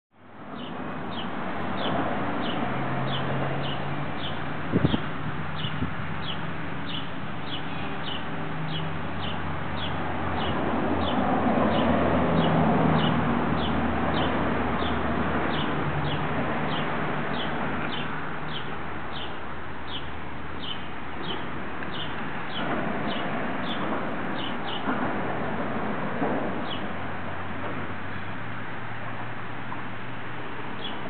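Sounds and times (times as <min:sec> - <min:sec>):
city street traffic rumble: 0:00.1 - 0:31.0.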